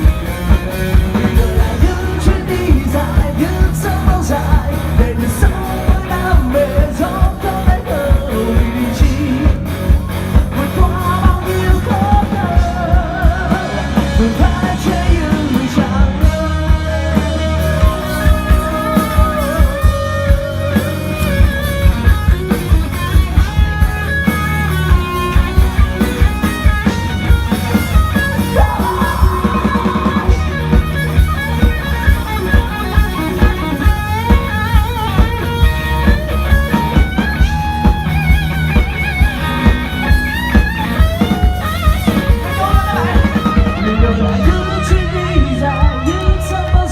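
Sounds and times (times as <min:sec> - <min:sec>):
bass guitar: 0:00.0 - 0:46.9
electric guitar lead bending notes: 0:00.0 - 0:46.9
steady drum beat: 0:00.0 - 0:46.9.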